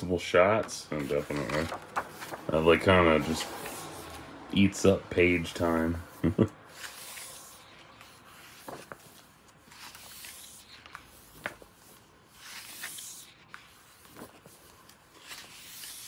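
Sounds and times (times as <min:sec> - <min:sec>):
book pages turning: 0:00.4 - 0:04.4, 0:05.3 - 0:16.0.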